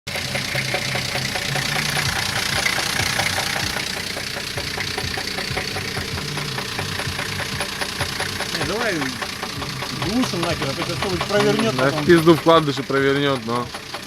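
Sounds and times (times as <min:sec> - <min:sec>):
engine idling: 0:00.0 - 0:14.0
engine knocking: 0:00.0 - 0:14.0.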